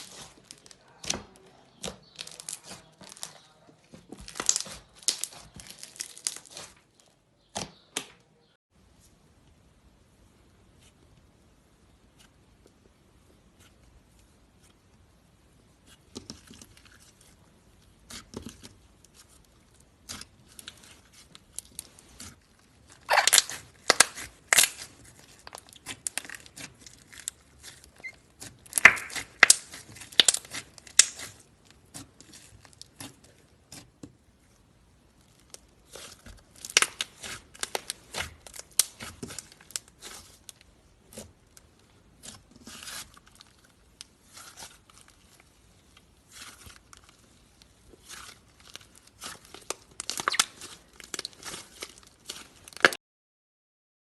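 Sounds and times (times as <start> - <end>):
slime crackling and popping: 0.0 - 3.4, 4.2 - 6.9, 15.8 - 53.0.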